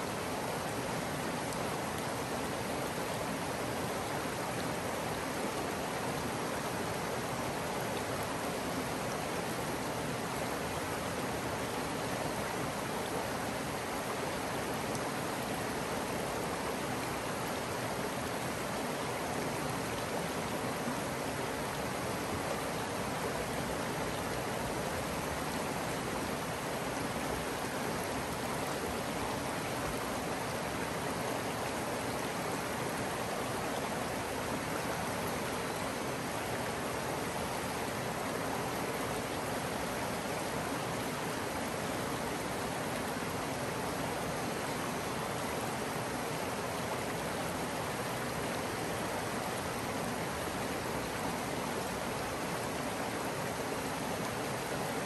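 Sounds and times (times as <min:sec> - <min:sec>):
creek water flowing: 0:00.0 - 0:55.0.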